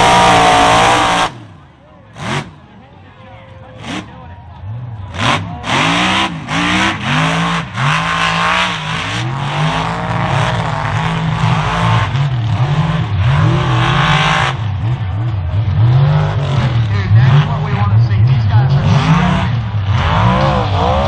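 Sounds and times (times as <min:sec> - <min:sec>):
truck engine revving: 0:00.0 - 0:02.8, 0:03.6 - 0:21.0.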